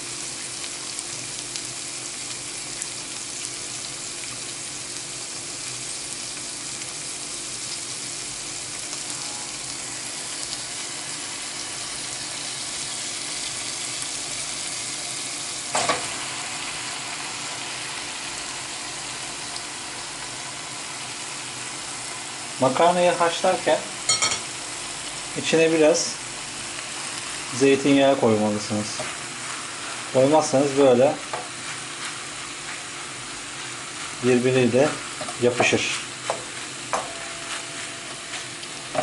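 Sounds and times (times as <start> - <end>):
sausage sizzling in a pan: 0.0 - 39.0.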